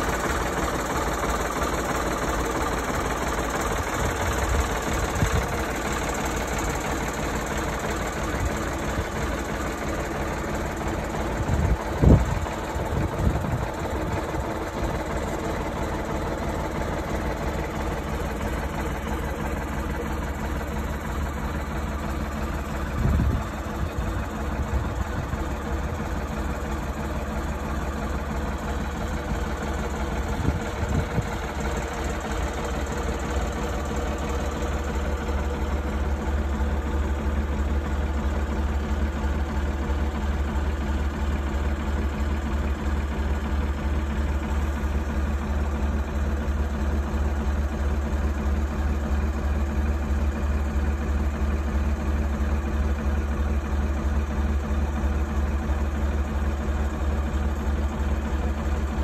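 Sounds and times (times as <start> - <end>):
idling engine hum: 0.0 - 59.0.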